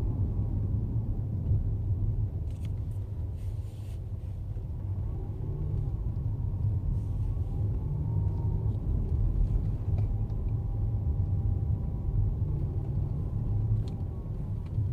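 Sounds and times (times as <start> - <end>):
road and engine noise: 0.0 - 14.9.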